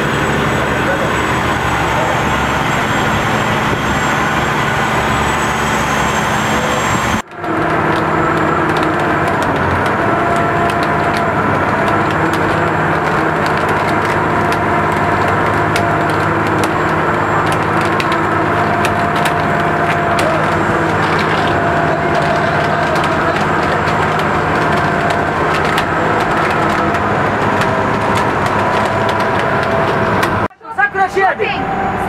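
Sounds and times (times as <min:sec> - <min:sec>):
boat engine running: 0:00.0 - 0:30.5.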